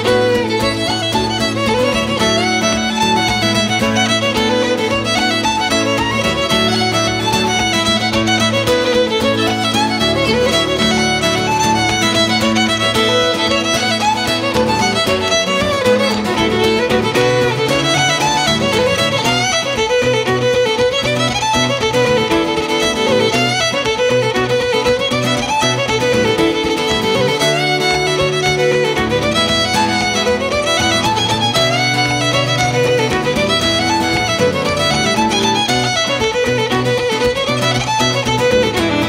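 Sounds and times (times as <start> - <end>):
fiddle melody: 0.0 - 39.0.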